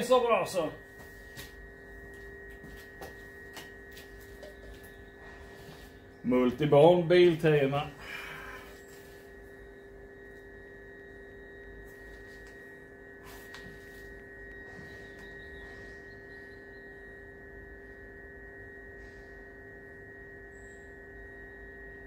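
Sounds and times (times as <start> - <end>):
steady hum of fixed tones: 0.0 - 22.0.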